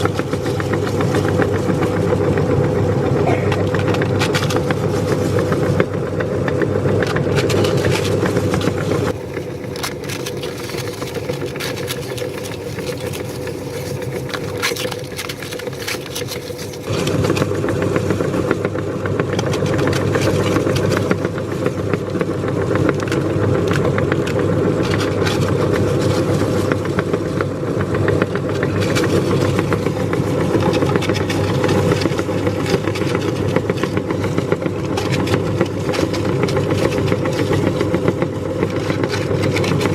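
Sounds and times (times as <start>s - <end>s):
electric meat grinder running: 0.0s - 39.9s.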